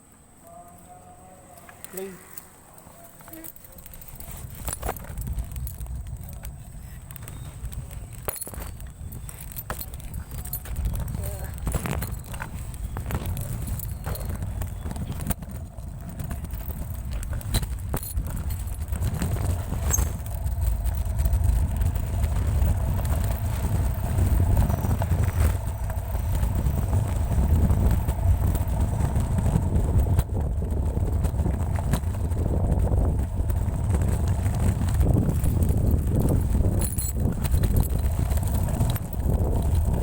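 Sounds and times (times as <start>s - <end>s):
scooter wheels rolling on pavement: 0.0s - 40.0s
wind on microphone: 4.0s - 40.0s.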